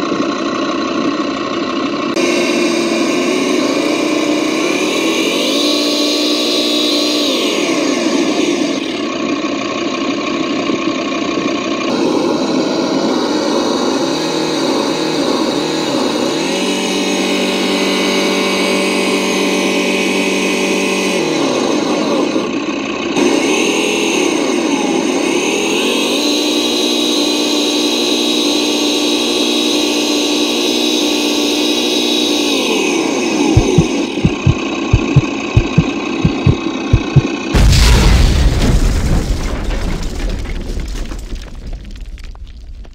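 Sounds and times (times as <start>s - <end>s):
simulated truck engine: 0.0s - 39.7s.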